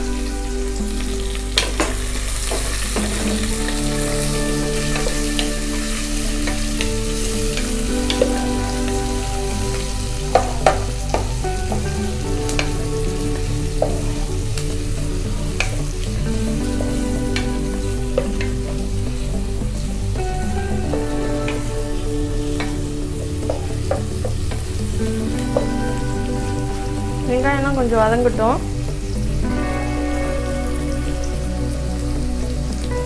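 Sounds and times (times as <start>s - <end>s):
background music notes: 0.0s - 33.0s
onions sizzling in oil: 0.0s - 33.0s.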